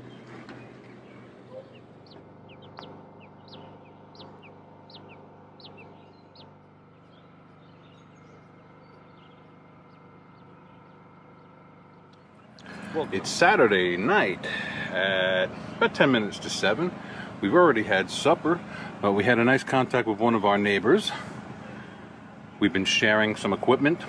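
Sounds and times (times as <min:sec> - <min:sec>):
bird calling: 0:00.0 - 0:19.3
faint low hum: 0:00.0 - 0:24.0.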